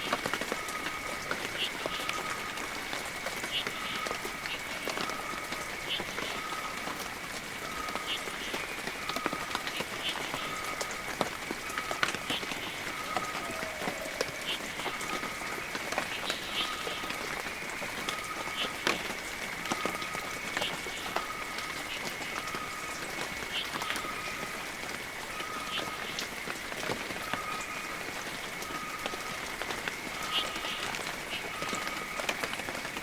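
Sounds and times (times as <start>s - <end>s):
heavy rain with drops ticking: 0.0s - 33.0s.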